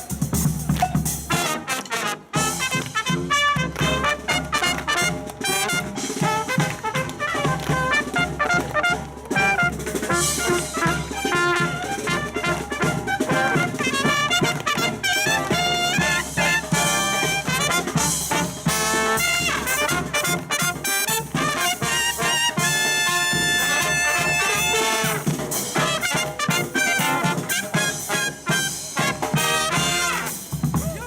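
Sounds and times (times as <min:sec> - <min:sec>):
brass band playing swing tune: 0:00.0 - 0:31.0
drums: 0:00.0 - 0:31.0.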